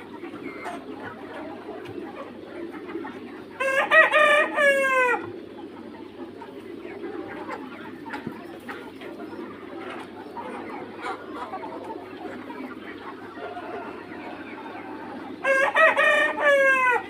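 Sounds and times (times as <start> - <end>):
hens clucking faintly: 0.0 - 17.0.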